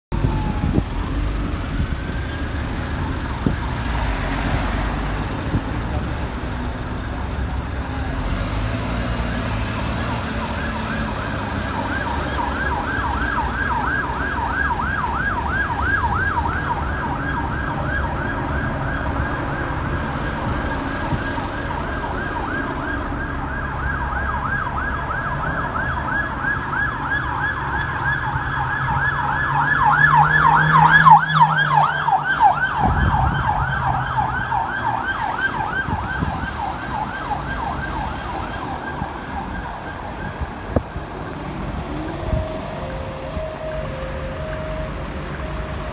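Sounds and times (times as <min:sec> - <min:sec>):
diesel bus engines running: 0:00.1 - 0:45.9
emergency siren yelping: 0:00.2 - 0:04.2, 0:09.2 - 0:45.9.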